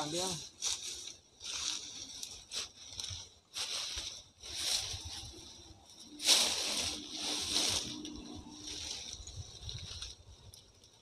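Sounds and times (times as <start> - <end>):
footsteps through vegetation: 0.0 - 11.0
rustling of leaves and undergrowth: 0.0 - 11.0.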